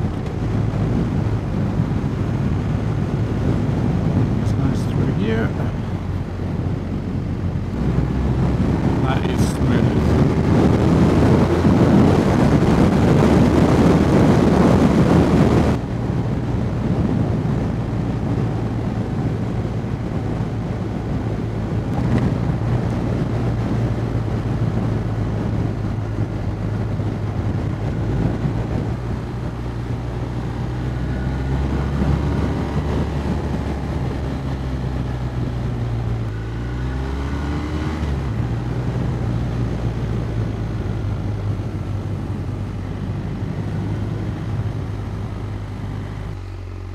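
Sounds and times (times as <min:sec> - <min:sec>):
motorcycle engine running: 0:00.0 - 0:46.9
wind rush from riding: 0:00.0 - 0:46.9.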